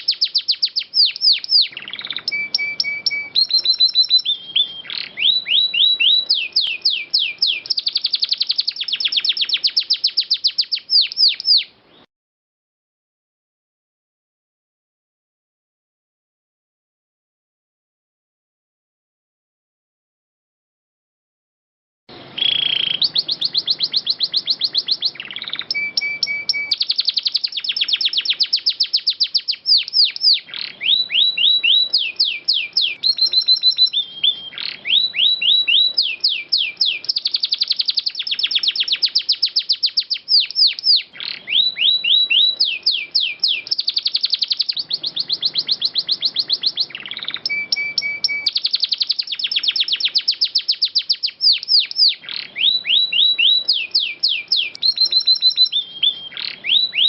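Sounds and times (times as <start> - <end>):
canary singing: 0.0 - 12.1, 22.1 - 57.0.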